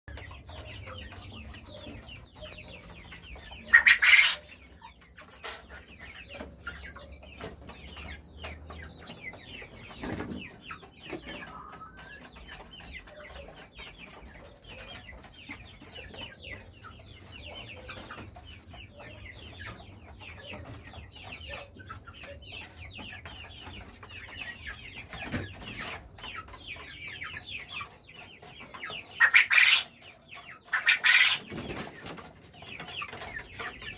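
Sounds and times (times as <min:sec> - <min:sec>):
quail chirping: 0:00.1 - 0:33.9.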